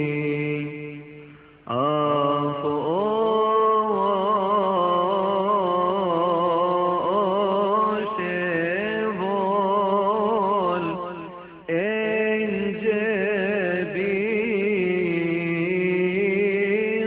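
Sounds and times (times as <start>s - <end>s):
man chanting a hymn: 0.0s - 17.0s.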